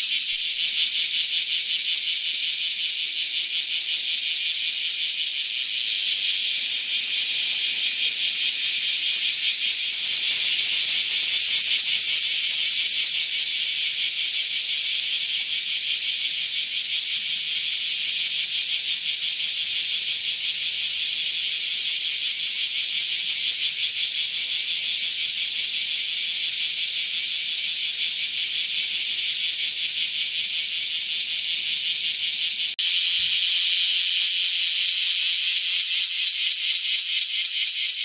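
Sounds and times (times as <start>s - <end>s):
cicada buzzing: 0.0s - 38.0s.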